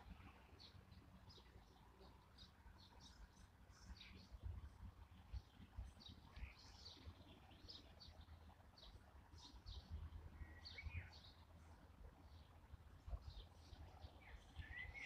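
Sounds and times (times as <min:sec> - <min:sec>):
faint low rumble: 0:00.0 - 0:15.0
small songbirds chirping: 0:00.0 - 0:15.0.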